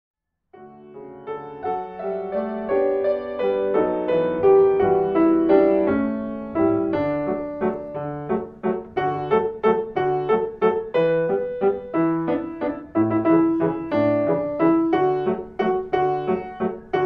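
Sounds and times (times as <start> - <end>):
gentle piano accompaniment: 0.5 - 17.0.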